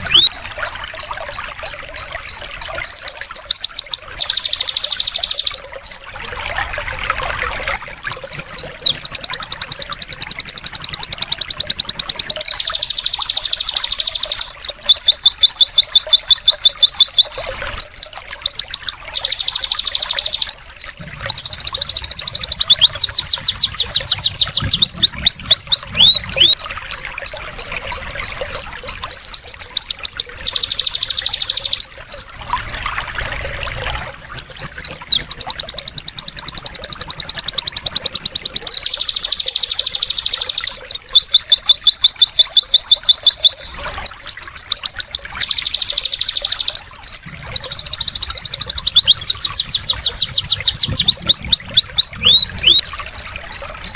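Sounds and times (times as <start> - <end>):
bird chattering trills: 0.0 - 6.6, 7.2 - 32.9, 33.8 - 53.9
water trickling: 0.0 - 53.9.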